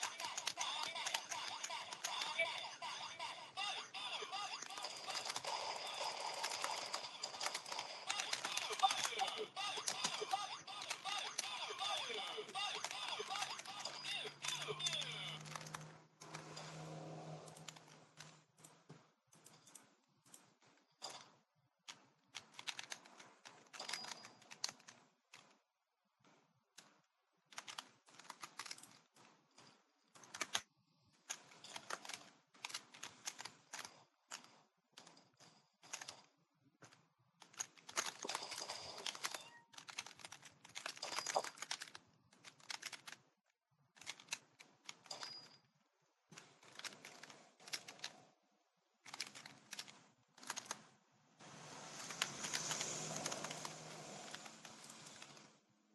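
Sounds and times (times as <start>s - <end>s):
faint rapid keyboard typing: 0.0s - 16.7s, 17.4s - 43.3s, 43.9s - 45.5s, 46.3s - 48.3s, 49.0s - 51.0s, 52.0s - 55.5s.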